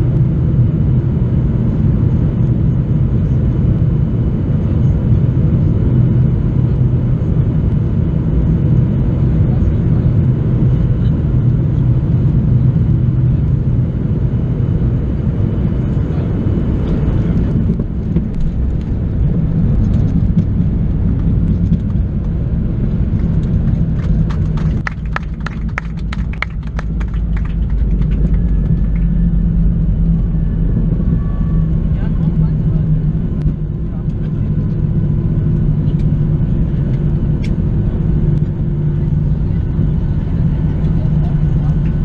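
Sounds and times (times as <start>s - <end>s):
aircraft cabin rumble: 0.0s - 42.0s.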